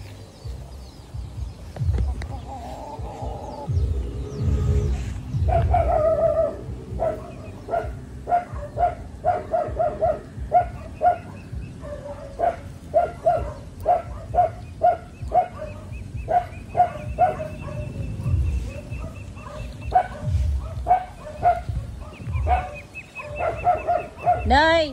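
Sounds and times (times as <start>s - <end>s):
ducks quacking: 1.9s - 24.9s.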